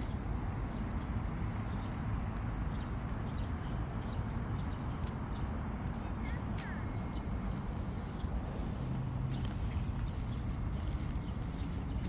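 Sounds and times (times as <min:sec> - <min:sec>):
footsteps on paved path: 0:00.0 - 0:12.0
low outdoor rumble: 0:00.0 - 0:12.0.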